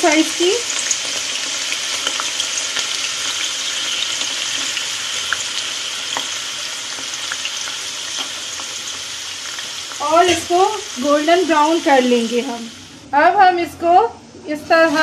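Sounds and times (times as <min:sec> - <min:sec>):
onion sizzling in hot fat: 0:00.0 - 0:13.2, 0:14.6 - 0:15.0.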